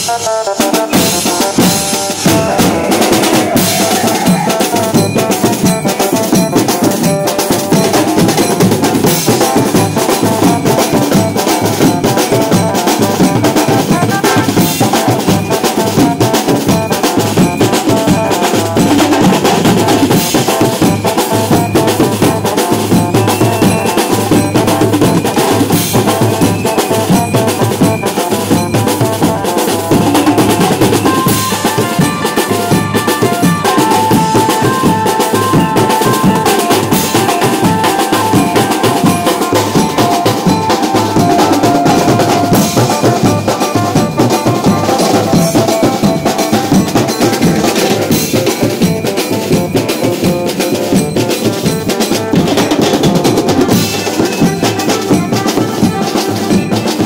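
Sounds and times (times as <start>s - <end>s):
dense continuous drumming: 0.0s - 57.0s.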